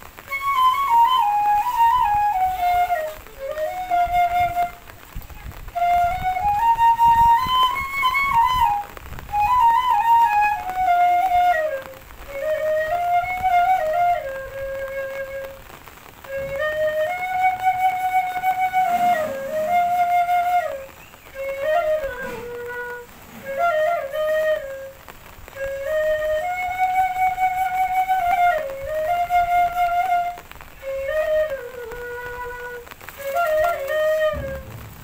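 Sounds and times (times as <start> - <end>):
solo flute melody: 0.0 - 35.0.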